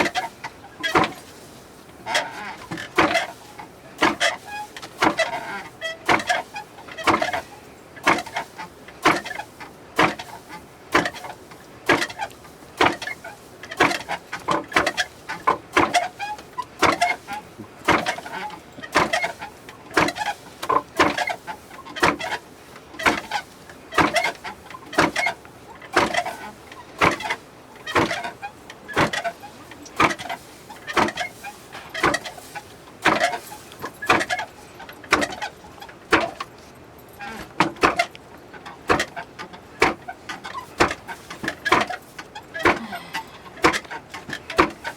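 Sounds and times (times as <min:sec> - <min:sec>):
hand mill grinding grain: 0:00.0 - 0:44.9.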